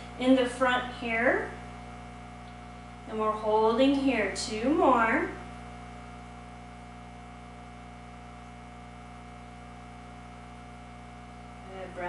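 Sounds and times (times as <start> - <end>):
low tonal hum: 0.0 - 12.0.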